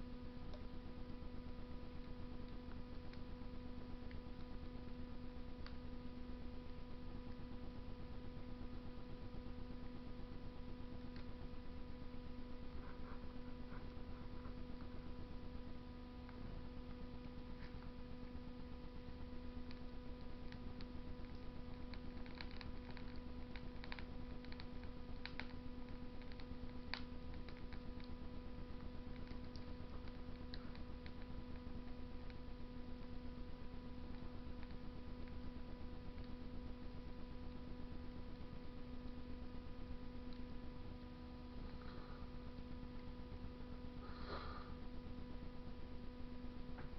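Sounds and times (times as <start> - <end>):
electrical hum: 0.0 - 46.9
wood fire crackling: 0.2 - 46.1.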